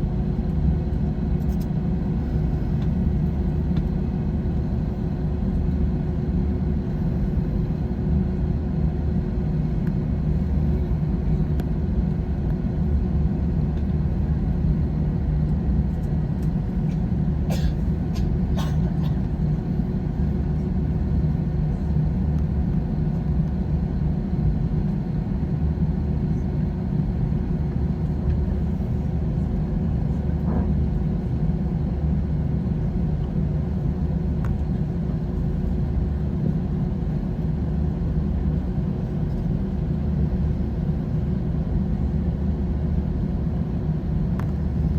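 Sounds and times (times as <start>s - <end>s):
jet engine cabin rumble: 0.0s - 44.9s.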